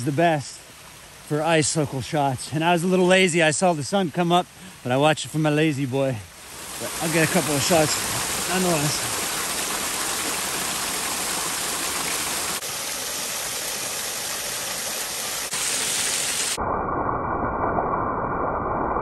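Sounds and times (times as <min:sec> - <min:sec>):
small waterfall rushing over rocks: 0:00.0 - 0:16.6.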